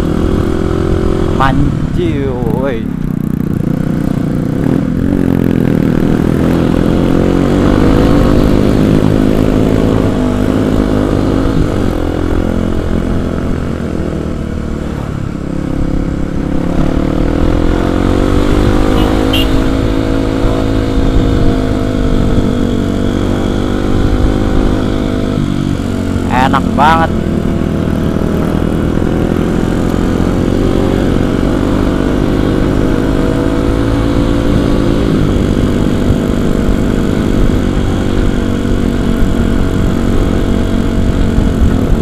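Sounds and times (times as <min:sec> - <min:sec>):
motorcycle engine revving: 0:00.0 - 0:42.0
wind noise: 0:04.1 - 0:26.2, 0:27.1 - 0:42.0.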